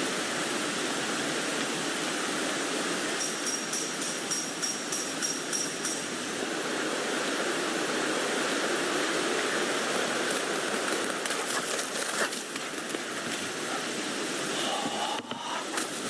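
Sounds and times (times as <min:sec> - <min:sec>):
rain hissing on a tent: 0:00.0 - 0:16.0.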